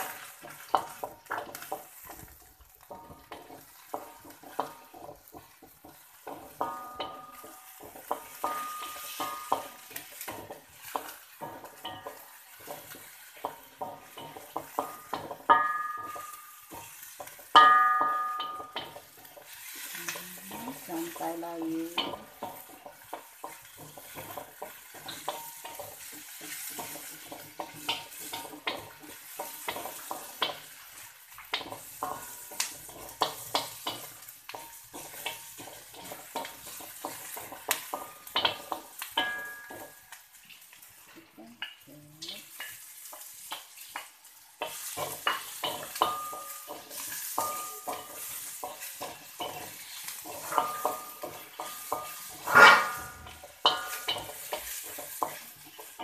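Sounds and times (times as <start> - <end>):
onions sizzling in oil: 0.0 - 56.0
spatula scraping metal wok: 0.0 - 56.0.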